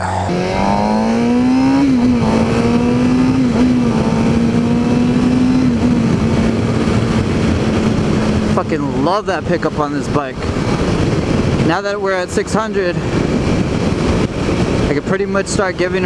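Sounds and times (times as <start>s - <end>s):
motorcycle engine accelerating: 0.0s - 12.0s, 13.1s - 15.0s.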